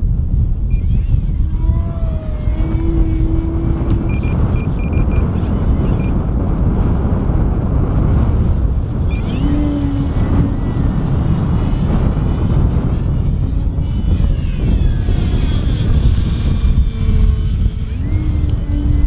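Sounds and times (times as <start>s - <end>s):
wind rumble on microphone: 0.0s - 19.0s
model plane motor whining: 0.7s - 6.3s, 8.7s - 19.0s.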